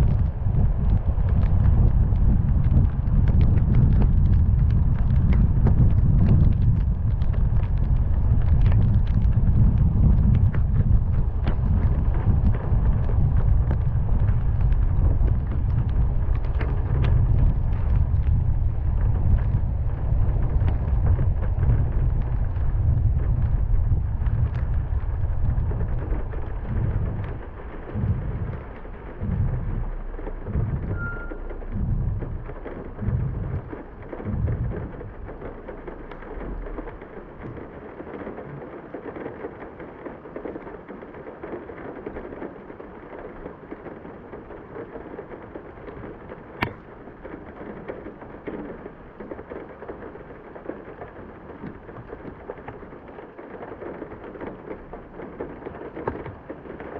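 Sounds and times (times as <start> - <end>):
low rumble with deep thumps: 0.0 - 39.4, 44.4 - 56.9
heavy rain falling: 0.0 - 56.9.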